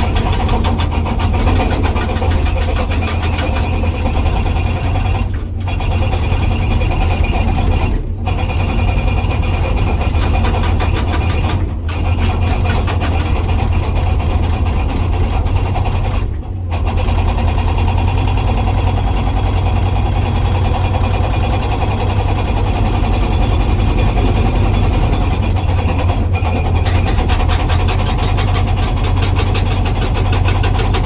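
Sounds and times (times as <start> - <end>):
excavator diesel engine running: 0.0 - 31.0
hydraulic rock breaker hammering: 0.0 - 31.0.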